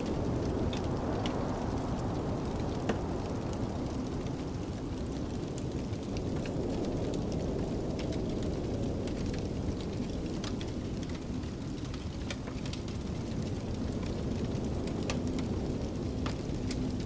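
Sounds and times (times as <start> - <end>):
wind rumbling and howling: 0.0 - 17.0
wood fire crackling and popping: 0.0 - 17.0.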